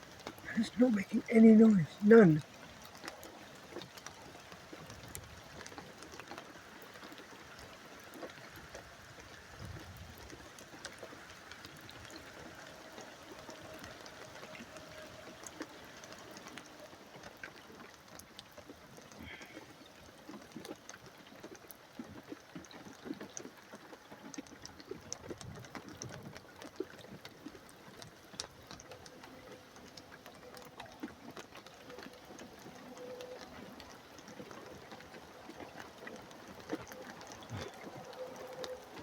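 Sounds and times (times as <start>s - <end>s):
light rain pattering: 0.0s - 39.0s
water dripping: 0.0s - 39.0s.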